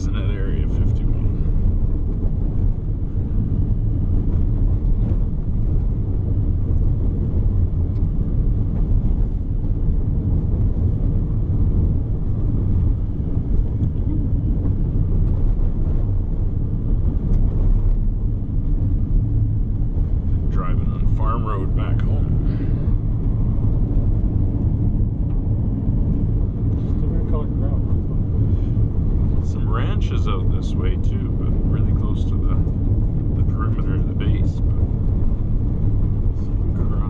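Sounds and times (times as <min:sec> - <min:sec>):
car engine and tyre rumble: 0:00.0 - 0:37.0.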